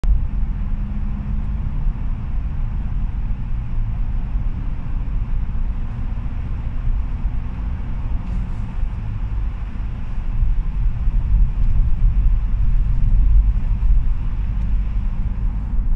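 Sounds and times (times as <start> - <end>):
low engine drone: 0.0 - 15.9
road noise: 0.0 - 15.9.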